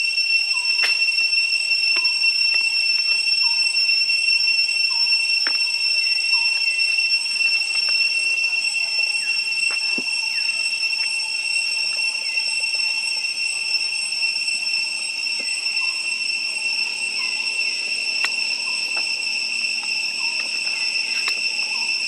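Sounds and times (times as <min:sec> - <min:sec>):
insects droning whine: 0:00.0 - 0:22.0.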